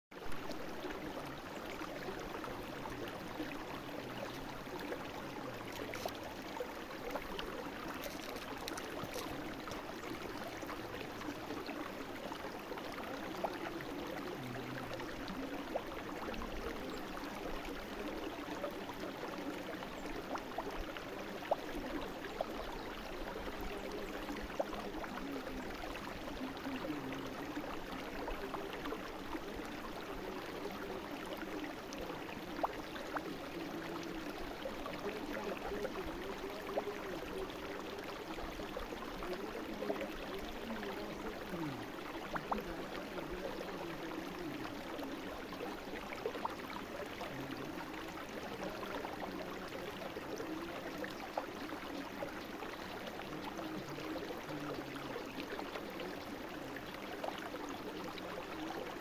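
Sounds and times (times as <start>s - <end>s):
brook flowing: 0.1s - 59.0s.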